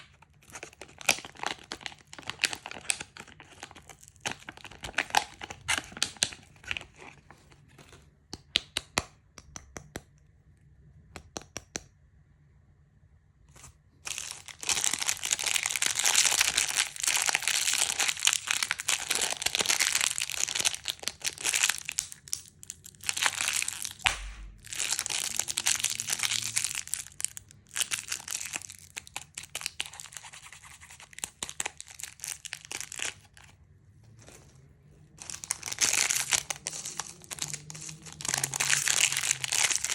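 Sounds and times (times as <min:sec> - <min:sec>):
plastic wrappers crinkling: 0:00.0 - 0:07.9, 0:14.1 - 0:33.5, 0:35.2 - 0:39.9.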